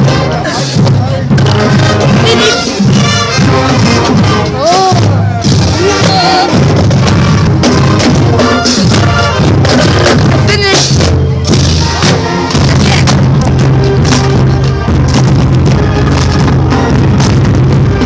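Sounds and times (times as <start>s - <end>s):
loud music with drums and bass: 0.0s - 18.0s.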